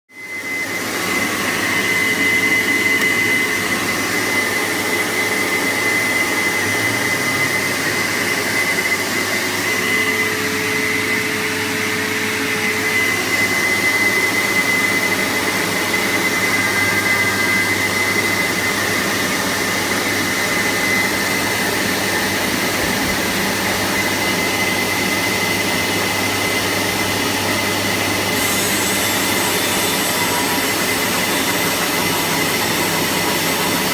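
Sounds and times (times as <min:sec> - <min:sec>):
router spindle motor whining: 0:00.2 - 0:33.9.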